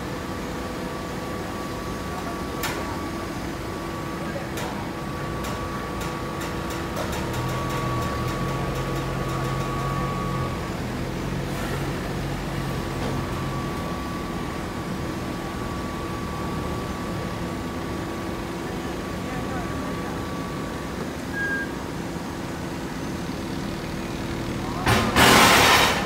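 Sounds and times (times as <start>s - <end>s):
forklift engine running: 0.0s - 26.0s
machine hum with high whine: 0.0s - 26.0s.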